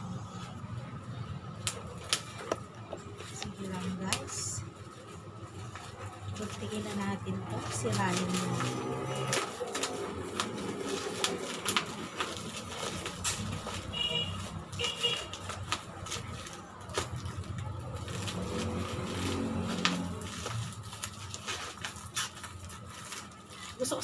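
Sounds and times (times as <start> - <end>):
packaging clicks and rustles: 1.5 - 24.0.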